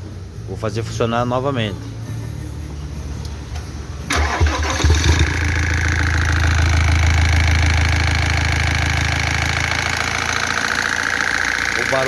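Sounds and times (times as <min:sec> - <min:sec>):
continuous engine noise: 0:00.0 - 0:12.0
diesel engine starting and idling: 0:01.9 - 0:12.0.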